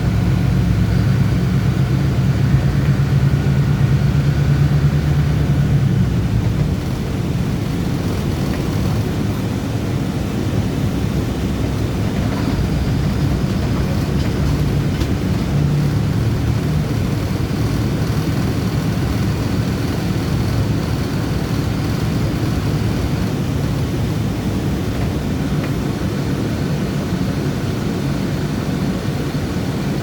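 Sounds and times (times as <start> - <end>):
bus engine and tyres rumbling: 0.0 - 30.0.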